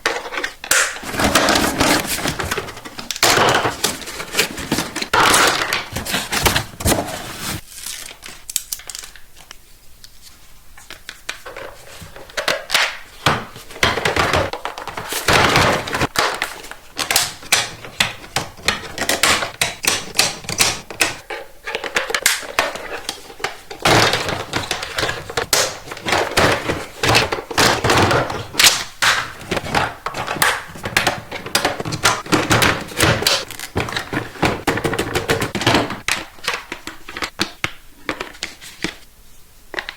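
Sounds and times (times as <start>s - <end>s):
packaging crinkling: 0.4s - 10.2s, 10.8s - 39.0s.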